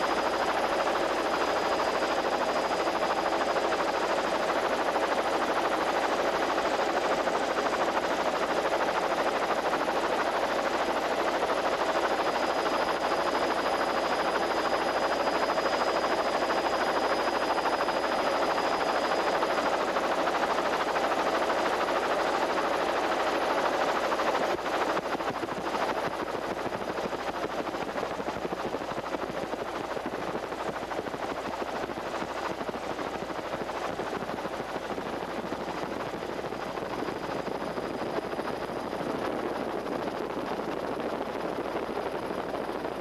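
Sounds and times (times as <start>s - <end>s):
helicopter engine and rotor: 0.0s - 43.0s.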